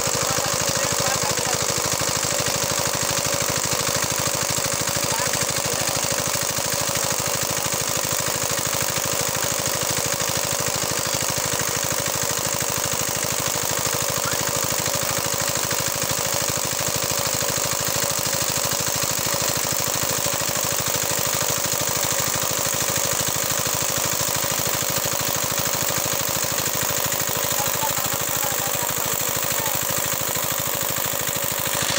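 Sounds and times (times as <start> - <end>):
water pump engine running: 0.0 - 31.9.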